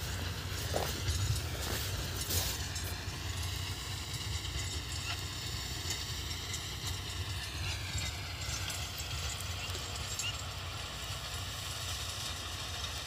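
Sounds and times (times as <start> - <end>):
tractor diesel engine chugging: 0.0 - 13.0.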